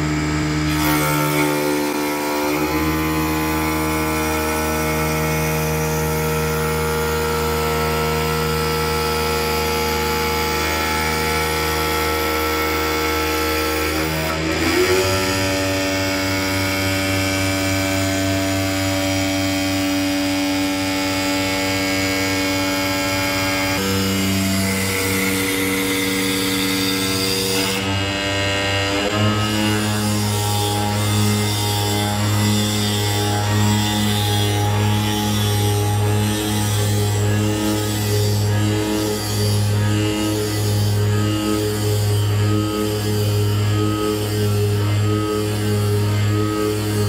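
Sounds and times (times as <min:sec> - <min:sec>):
lathe cutter on wood: 0:00.0 - 0:47.0
wood lathe motor whine: 0:00.0 - 0:47.0.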